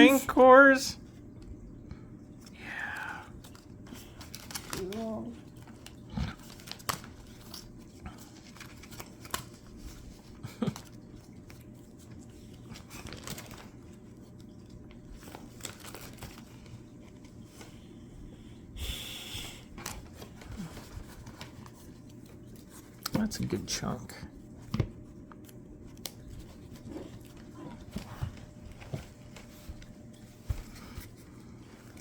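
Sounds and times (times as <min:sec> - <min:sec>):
crinkling rustle: 0:03.4 - 0:18.1, 0:19.8 - 0:32.0.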